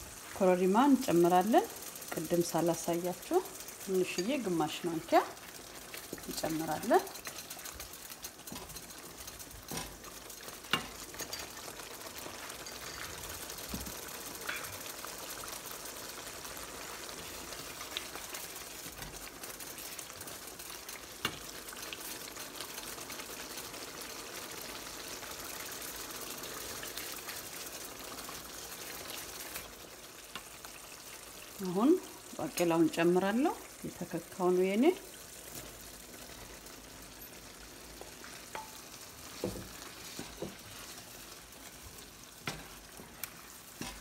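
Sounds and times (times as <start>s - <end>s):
sauce simmering and sizzling: 0.0s - 44.0s.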